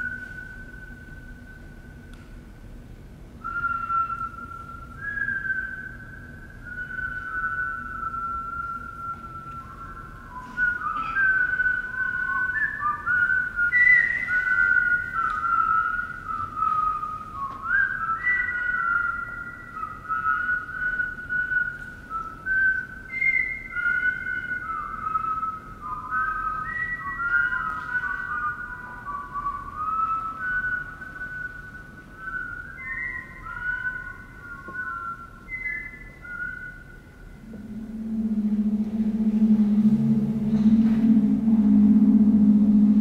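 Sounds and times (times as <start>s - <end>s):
whistled melody: 0.0s - 2.2s, 3.4s - 43.0s.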